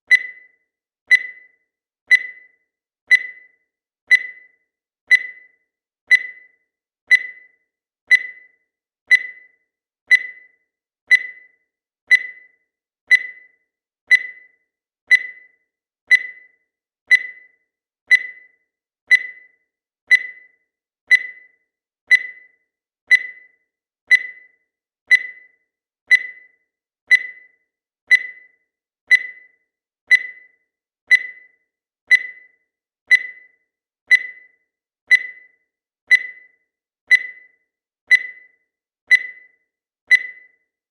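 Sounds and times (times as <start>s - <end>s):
digital timer beeping: 0.0s - 40.9s.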